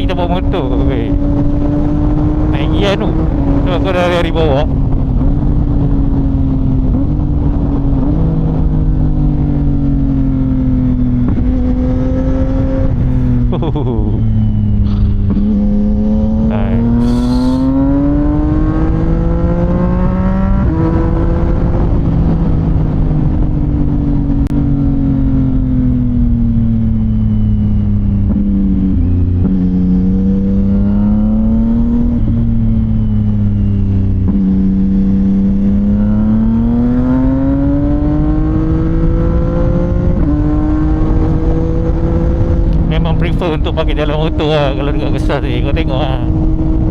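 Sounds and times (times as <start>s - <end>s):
motorcycle engine revving: 0.0s - 23.4s, 28.0s - 43.3s.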